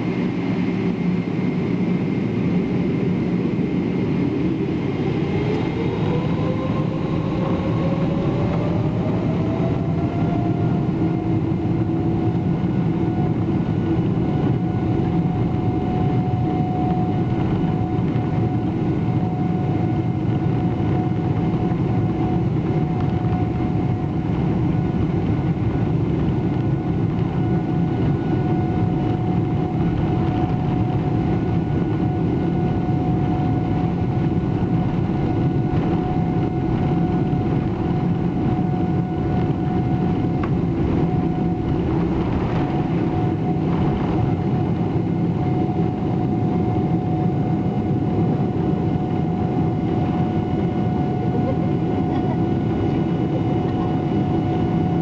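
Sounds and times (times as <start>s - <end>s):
jet engine fan whine: 0.0s - 55.0s
low engine rumble: 4.7s - 55.0s.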